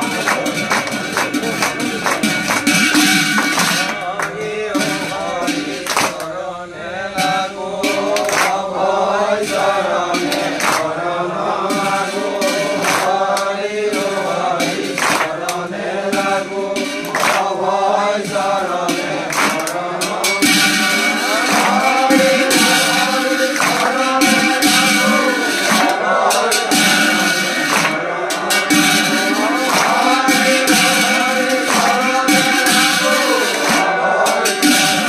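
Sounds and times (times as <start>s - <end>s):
sharp percussion strikes: 0.0s - 35.0s
voices chanting together: 0.0s - 35.0s.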